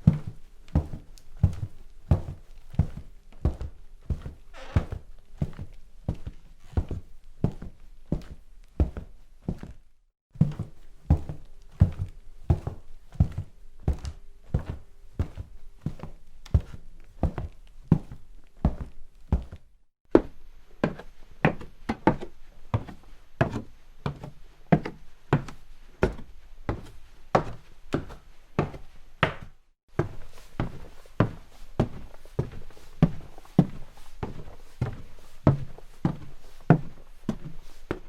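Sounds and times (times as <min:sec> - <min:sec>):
footsteps walking: 0:00.0 - 0:09.8, 0:10.4 - 0:38.0.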